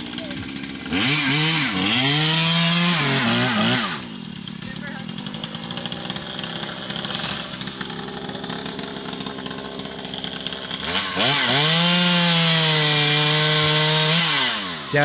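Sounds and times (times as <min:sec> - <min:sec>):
chainsaw idling and revving: 0:00.0 - 0:15.0.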